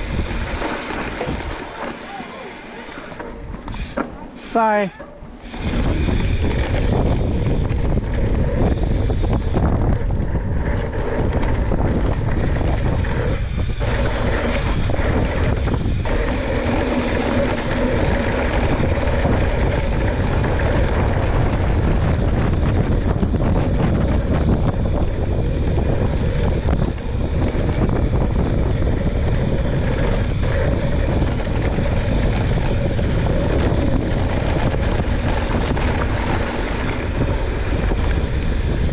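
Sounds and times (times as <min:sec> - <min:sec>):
bike tyres rolling on dirt: 0:00.0 - 0:38.9
wind rushing over microphone: 0:00.0 - 0:38.9.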